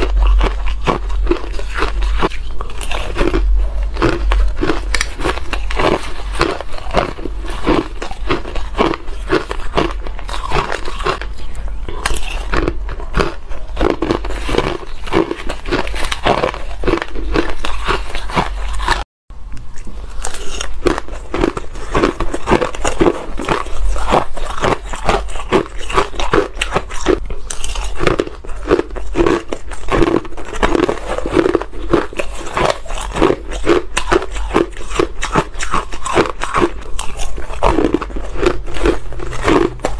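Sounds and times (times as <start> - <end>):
chewing and crunching ice: 0.0 - 39.9
low steady hum: 0.0 - 39.9.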